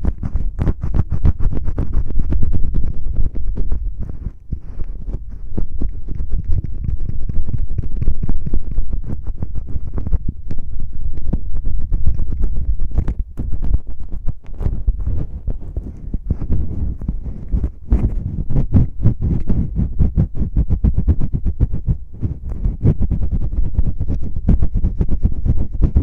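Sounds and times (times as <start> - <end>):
fingers rubbing on microphone: 0.0 - 26.0.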